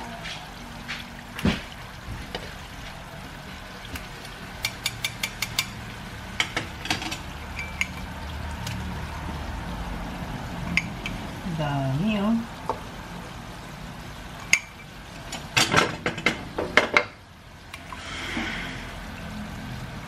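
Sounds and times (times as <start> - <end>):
curds sizzling in oil: 0.0 - 20.0.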